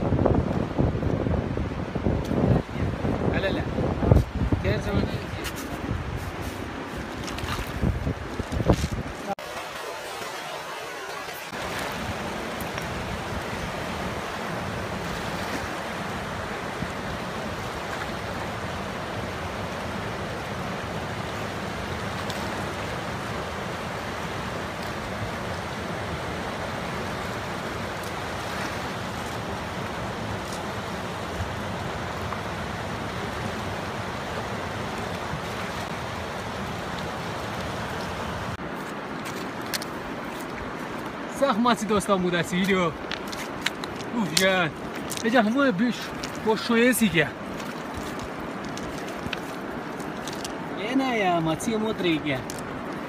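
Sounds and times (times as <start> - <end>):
river rushing over rapids: 0.0 - 53.0.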